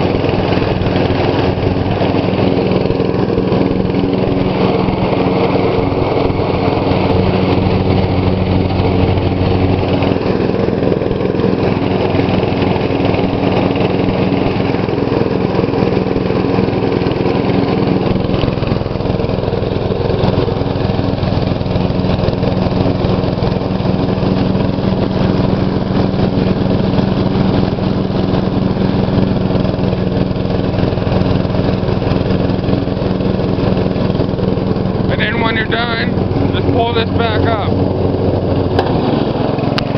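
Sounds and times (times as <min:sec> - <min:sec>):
lawn tractor mowing grass: 0:00.0 - 0:39.9.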